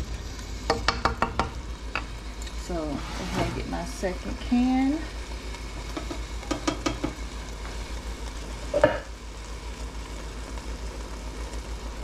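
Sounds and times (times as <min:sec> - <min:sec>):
meat and sauce sizzling in a pan: 0:00.0 - 0:12.0.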